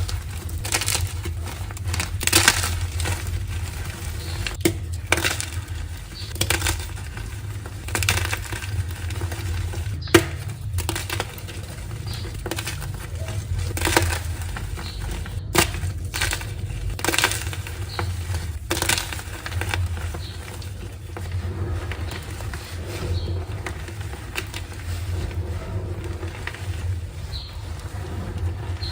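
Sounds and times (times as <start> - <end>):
chalk being crushed: 0.0 - 28.9.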